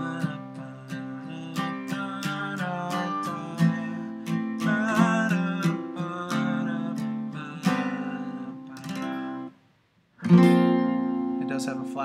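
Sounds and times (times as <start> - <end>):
acoustic guitar strumming chords: 0.0 - 9.6, 10.2 - 12.0.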